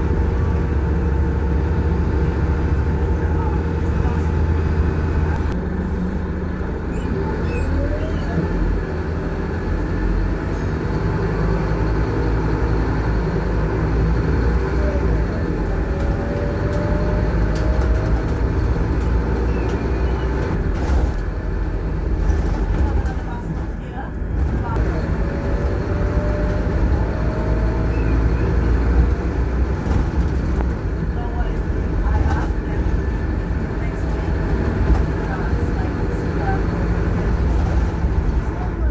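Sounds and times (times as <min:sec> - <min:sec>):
diesel bus engine drone: 0:00.0 - 0:38.9
road and body rumble: 0:00.0 - 0:38.9.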